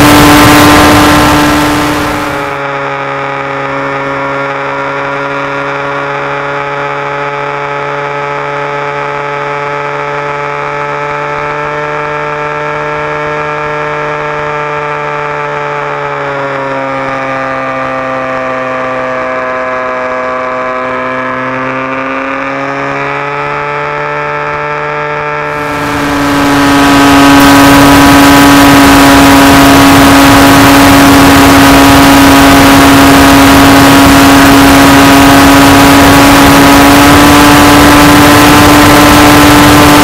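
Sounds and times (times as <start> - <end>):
model airplane motor running: 0.0 - 40.0.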